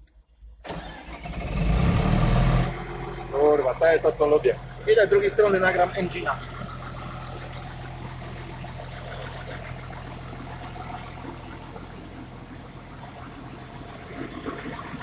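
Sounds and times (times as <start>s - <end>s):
diesel engine idling: 0.7s - 15.0s.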